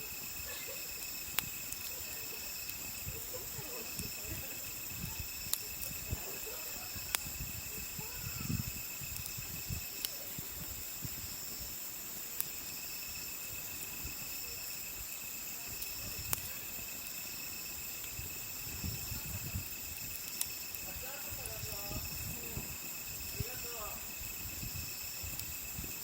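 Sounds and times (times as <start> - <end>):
campfire popping and crackling: 0.0 - 26.0
crickets chirring: 0.0 - 26.0.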